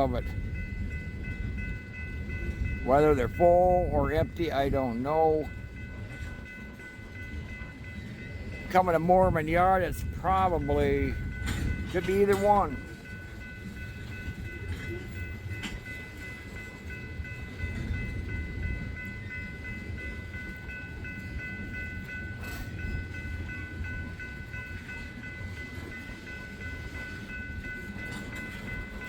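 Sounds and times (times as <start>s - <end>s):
freight train cars rumbling past: 0.0s - 29.0s.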